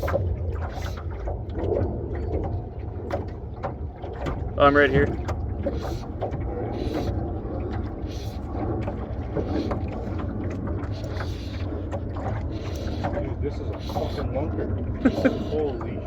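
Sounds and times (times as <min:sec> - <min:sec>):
boat engine rumble: 0:00.0 - 0:16.0.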